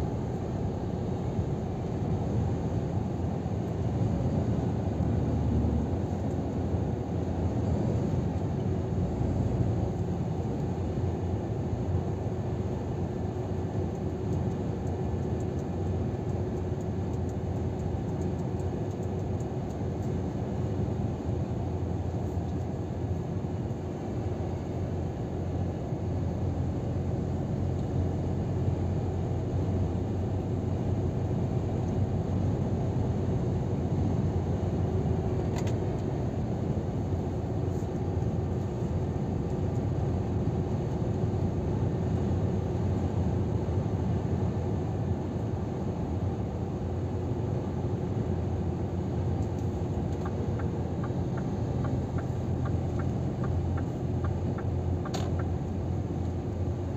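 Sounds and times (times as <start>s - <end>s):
truck engine and road drone: 0.0s - 56.9s.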